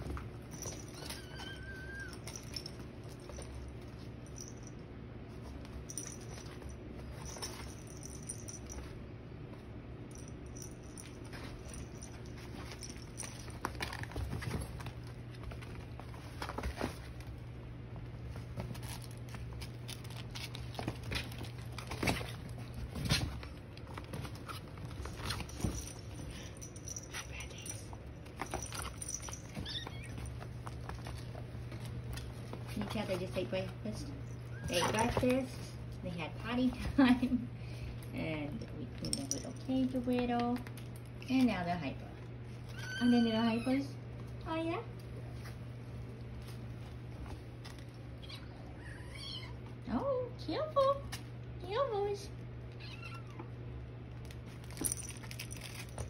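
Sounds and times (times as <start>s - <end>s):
kittens scampering on blanket: 0.0s - 37.2s, 42.2s - 49.8s, 52.7s - 56.0s.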